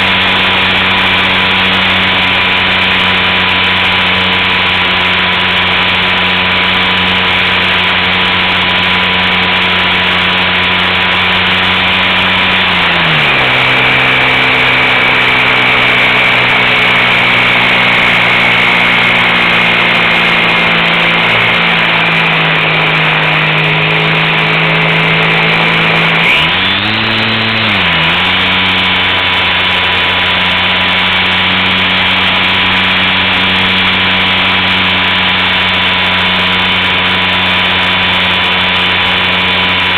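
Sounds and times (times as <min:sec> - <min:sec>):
model plane motor and propeller: 0:00.0 - 0:39.9.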